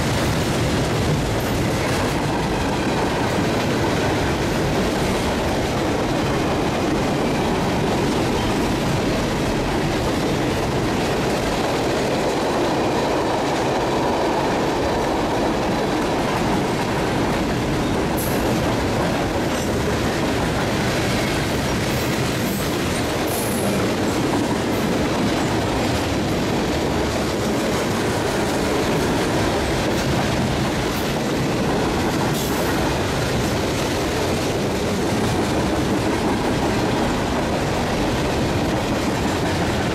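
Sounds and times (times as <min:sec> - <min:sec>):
freight train cars rolling: 0:00.0 - 0:39.9.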